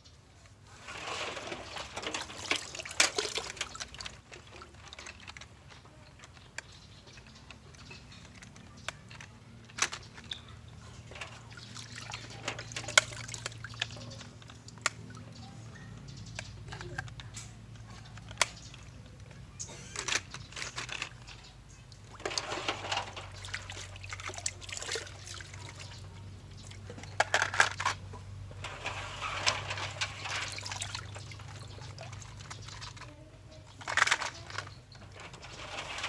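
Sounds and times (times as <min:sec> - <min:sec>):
toy cars clicking and rattling: 0:00.4 - 0:36.0.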